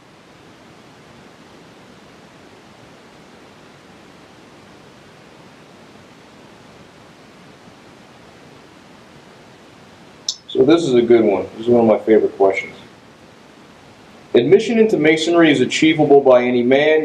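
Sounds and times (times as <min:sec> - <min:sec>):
room tone hiss: 0:00.0 - 0:17.0.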